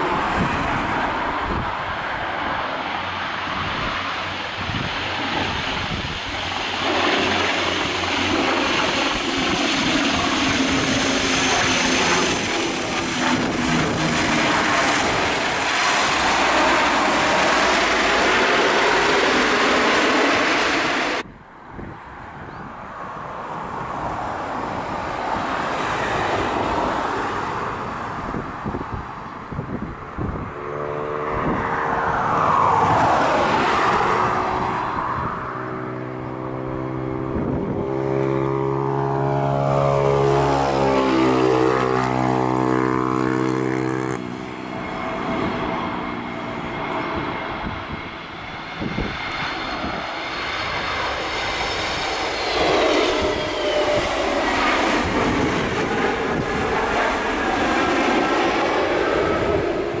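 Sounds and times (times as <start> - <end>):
aircraft high whine: 0.0 - 60.0
airliner engines droning: 0.0 - 60.0.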